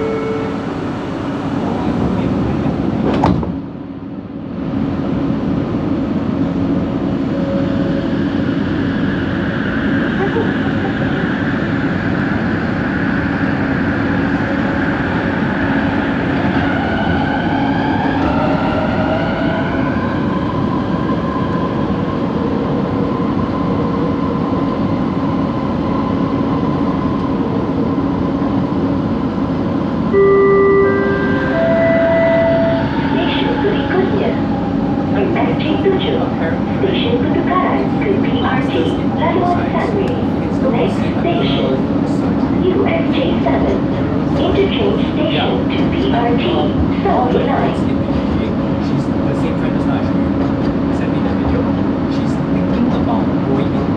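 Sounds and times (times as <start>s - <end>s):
train coach running rumble: 0.0s - 30.2s, 30.8s - 53.9s.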